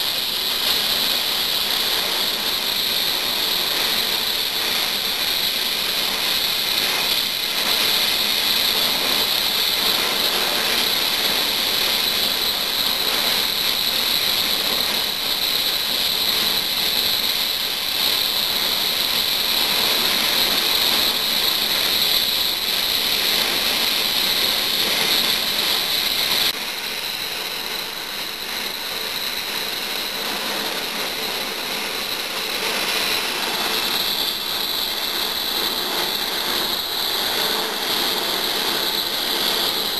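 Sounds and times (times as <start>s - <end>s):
helicopter rotor chatter: 0.0s - 39.9s.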